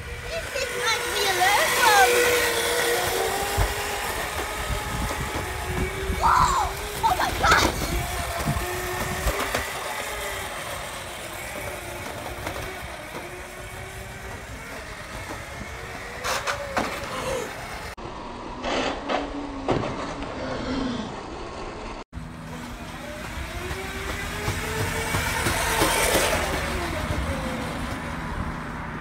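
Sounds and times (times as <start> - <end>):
electric scooter motor whining: 0.0 - 29.0
wheels rolling rumble: 0.0 - 29.0.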